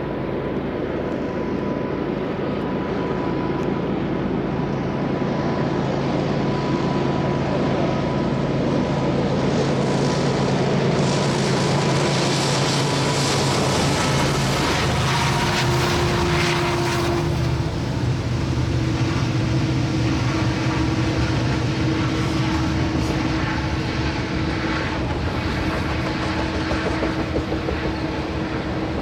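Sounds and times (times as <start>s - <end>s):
diesel locomotive engine drone: 0.0s - 29.0s
train wheels rattling on rails: 5.1s - 29.0s.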